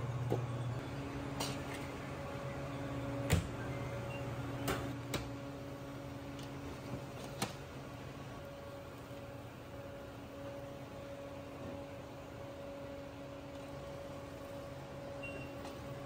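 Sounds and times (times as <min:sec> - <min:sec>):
low hum of kitchen equipment: 0:00.0 - 0:16.0.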